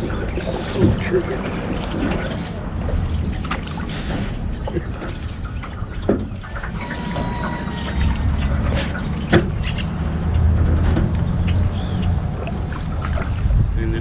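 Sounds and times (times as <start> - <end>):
paddle knocking: 0.0 - 13.5
water splashing and trickling: 0.0 - 14.0
wind rumble on microphone: 0.0 - 14.0.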